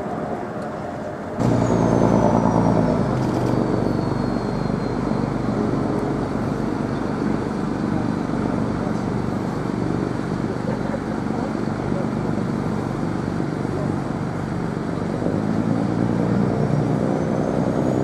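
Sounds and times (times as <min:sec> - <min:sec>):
engine-like rumble: 0:00.0 - 0:18.0.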